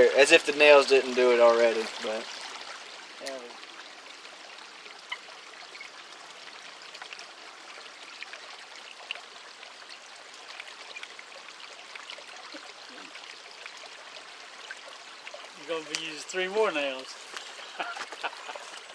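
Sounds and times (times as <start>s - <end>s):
running water: 0.0s - 18.9s.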